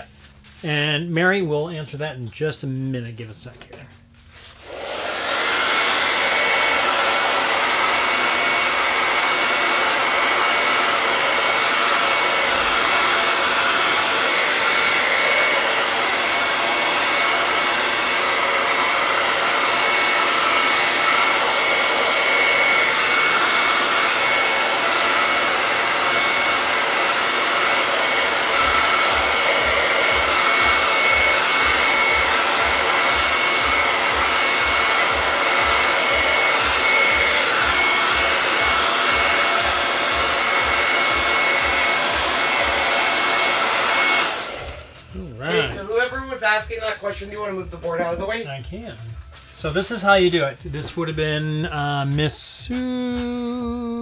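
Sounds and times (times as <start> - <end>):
hair dryer running: 4.4 - 48.4, 52.0 - 54.0.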